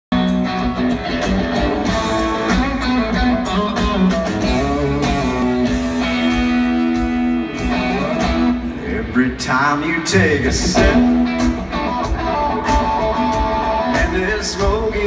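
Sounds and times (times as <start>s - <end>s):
live country band playing: 0.1s - 15.0s.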